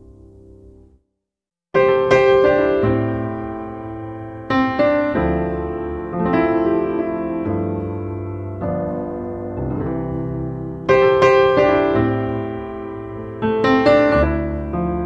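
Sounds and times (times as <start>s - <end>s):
slow piano music: 0.0s - 1.1s, 1.8s - 15.0s.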